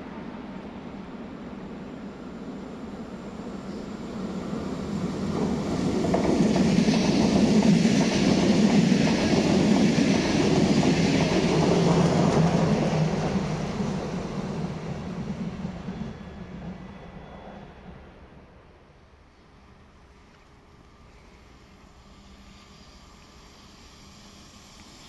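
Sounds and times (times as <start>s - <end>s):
train wheels on rail: 0.0s - 25.0s.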